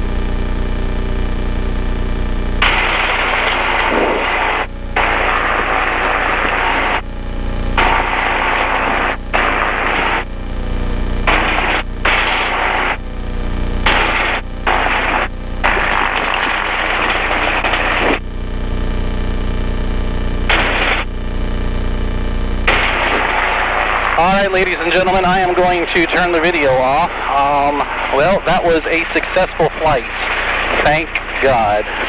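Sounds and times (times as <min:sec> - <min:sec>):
harsh two-stroke engine noise: 0:00.0 - 0:32.0
low engine drone: 0:00.0 - 0:32.0.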